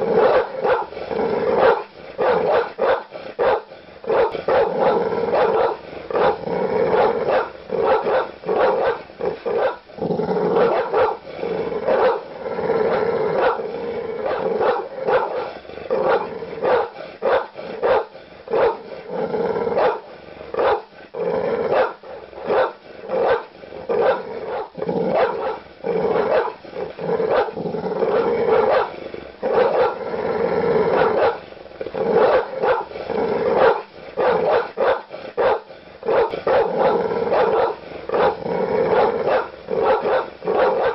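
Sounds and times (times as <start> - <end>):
large dogs barking aggressively: 0.0 - 40.9.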